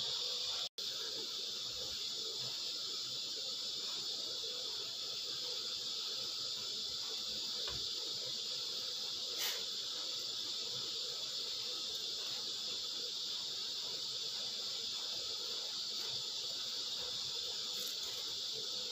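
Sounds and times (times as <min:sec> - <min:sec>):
insect chorus: 0:00.0 - 0:18.9.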